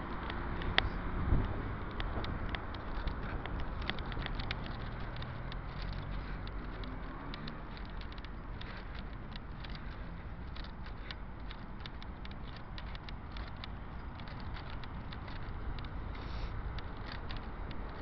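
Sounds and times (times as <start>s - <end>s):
road traffic rumble: 0.0s - 18.0s
small clicks: 0.0s - 18.0s
vehicle engine hum: 0.0s - 18.0s.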